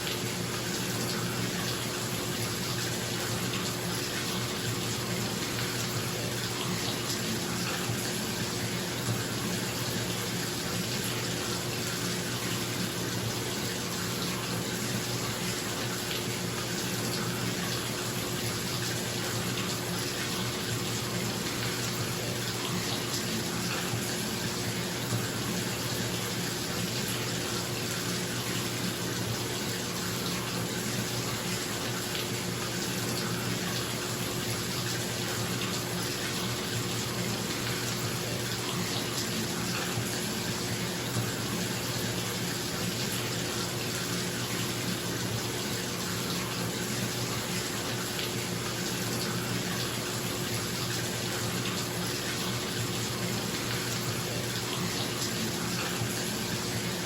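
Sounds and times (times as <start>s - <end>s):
water pouring into bathtub: 0.0s - 57.0s.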